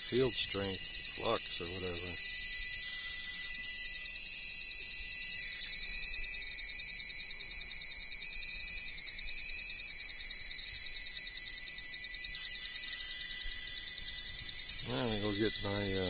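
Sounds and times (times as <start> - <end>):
electrical hiss and whine: 0.0 - 16.0.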